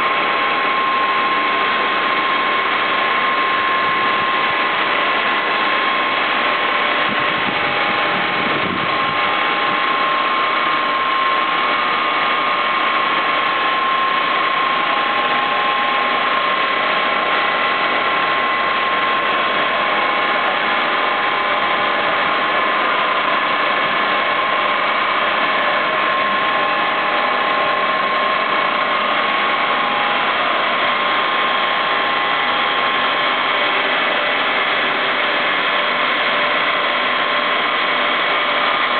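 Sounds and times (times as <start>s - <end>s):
machinery with high whine: 0.0s - 38.9s.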